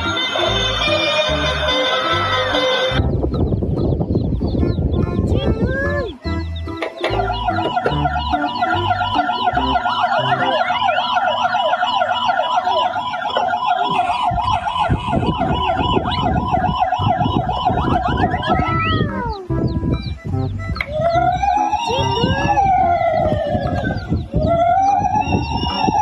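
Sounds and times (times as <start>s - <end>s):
toy siren yelping: 0.0s - 3.0s, 5.8s - 26.0s.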